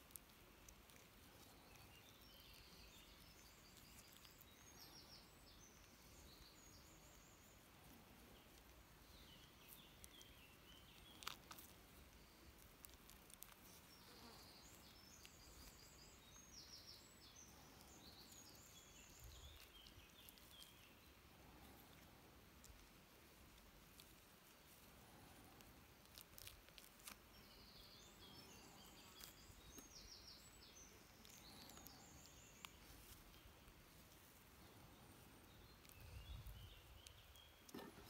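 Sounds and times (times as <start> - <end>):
songbirds chirping: 0.0 - 38.0.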